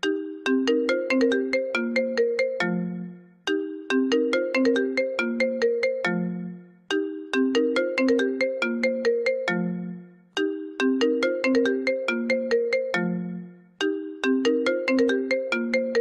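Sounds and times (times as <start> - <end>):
phone ringtone melody: 0.0 - 16.0.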